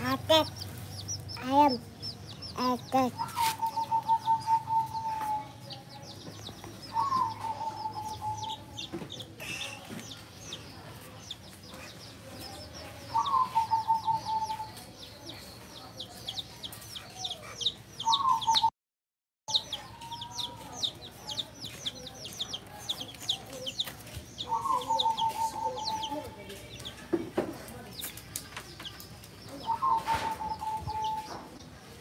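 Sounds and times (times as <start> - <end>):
baby chicks peeping: 0.0 - 18.7, 19.5 - 32.0.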